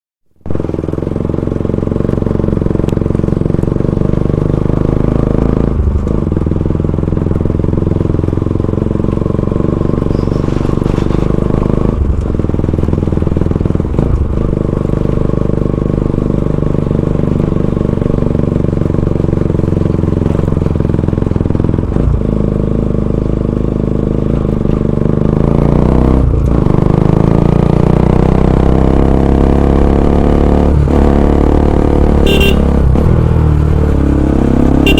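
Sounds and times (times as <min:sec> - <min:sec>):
motorcycle engine accelerating: 0:00.4 - 0:34.9.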